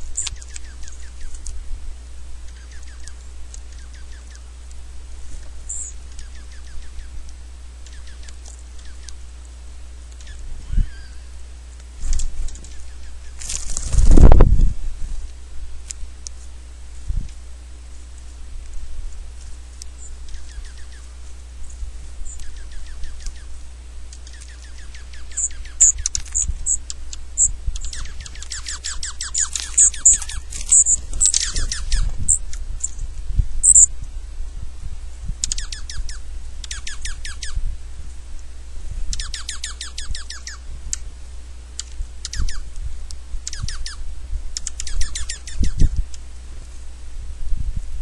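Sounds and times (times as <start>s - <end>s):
songbirds chirping: 0.0s - 47.4s.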